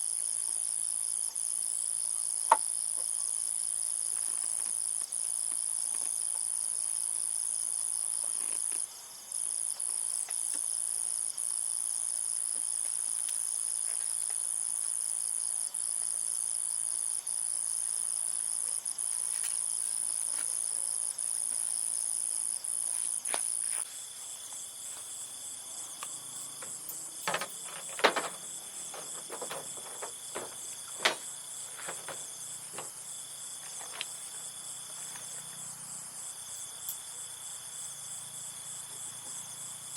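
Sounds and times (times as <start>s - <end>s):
insects chirring: 0.0s - 39.9s
pulsing insect chorus: 0.0s - 39.9s.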